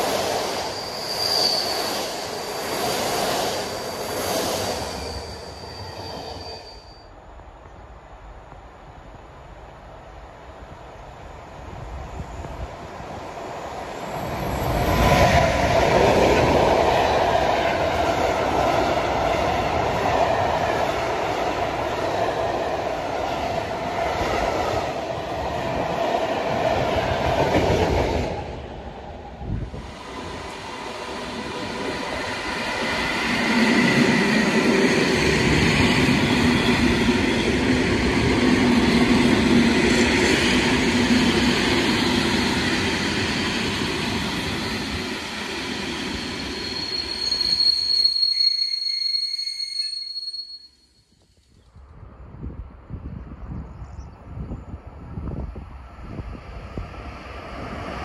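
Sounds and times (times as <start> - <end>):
electric train passing: 0.0 - 50.6
freight train passing: 0.0 - 50.6, 54.2 - 58.0.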